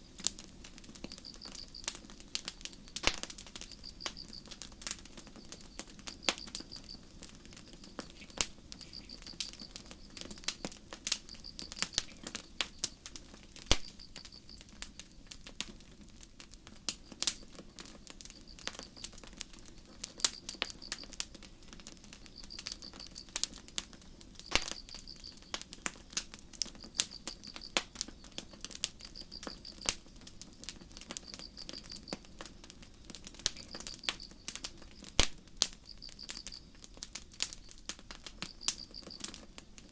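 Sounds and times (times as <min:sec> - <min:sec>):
campfire crackling: 0:00.0 - 0:39.9
crickets chirping: 0:00.8 - 0:02.2, 0:02.8 - 0:15.4, 0:17.0 - 0:39.9.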